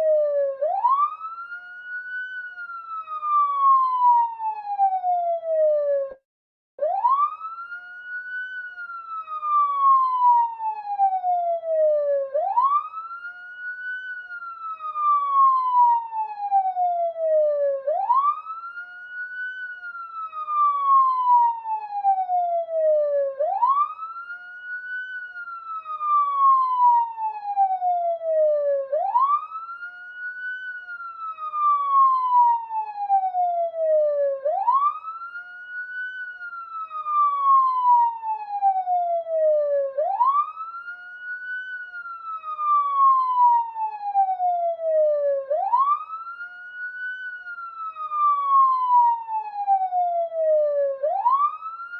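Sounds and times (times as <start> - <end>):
police siren wailing: 0.0 - 6.2, 6.8 - 51.9.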